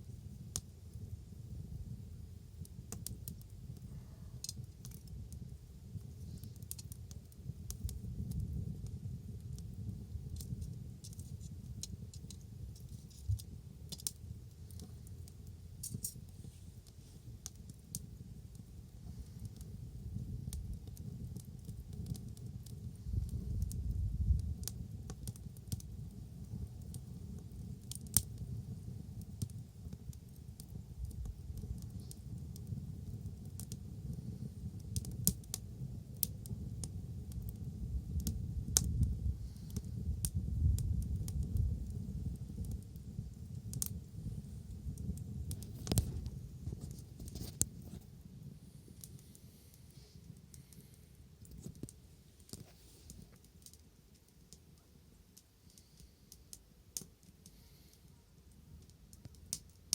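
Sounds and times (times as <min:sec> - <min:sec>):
bonfire crackling and popping: 0:00.0 - 0:59.9
low fire rumble: 0:00.0 - 0:59.9.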